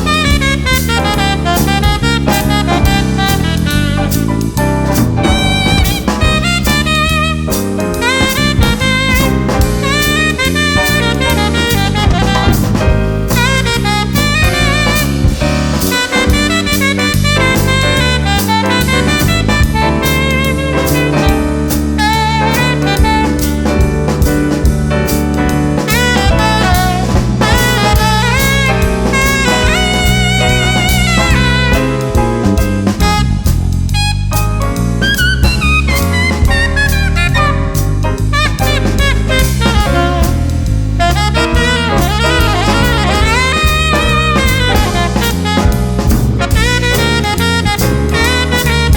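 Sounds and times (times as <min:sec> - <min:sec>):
bass line: 0:00.0 - 0:48.9
drum kit: 0:00.0 - 0:48.9
horn playing melody: 0:00.0 - 0:48.9.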